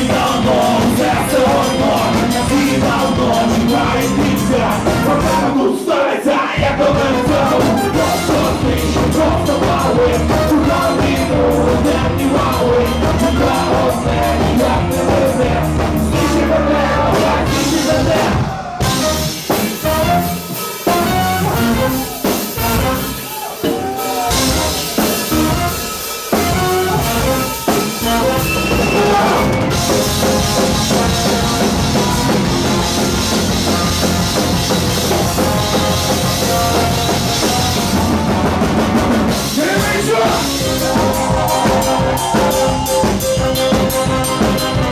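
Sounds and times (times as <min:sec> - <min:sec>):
drum kit: 0:00.0 - 0:05.8, 0:06.6 - 0:44.9
electric guitar: 0:06.8 - 0:44.9.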